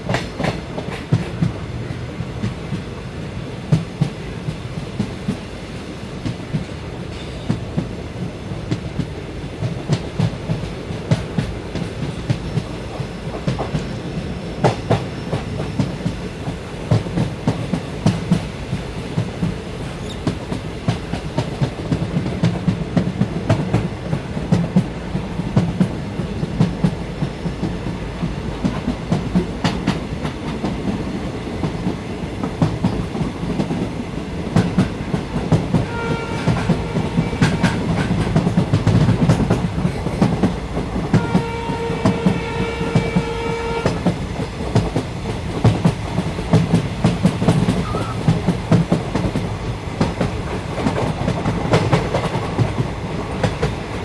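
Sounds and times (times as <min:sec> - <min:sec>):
clickety-clack of train wheels: 0:00.0 - 0:54.0
train rumbling on track: 0:00.0 - 0:54.0.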